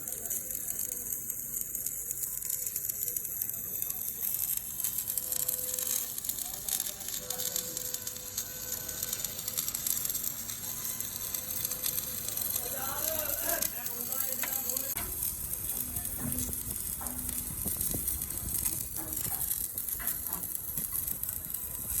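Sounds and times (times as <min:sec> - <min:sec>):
welding arc sizzling and crackling: 0:00.0 - 0:22.0.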